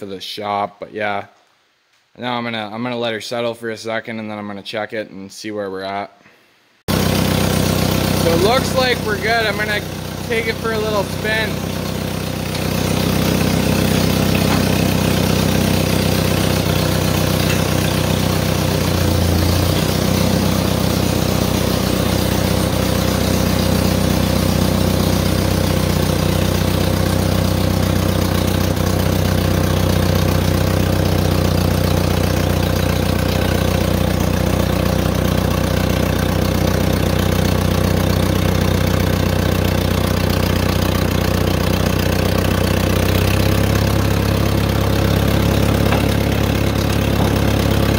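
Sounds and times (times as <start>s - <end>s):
tractor engine running: 6.9s - 47.9s.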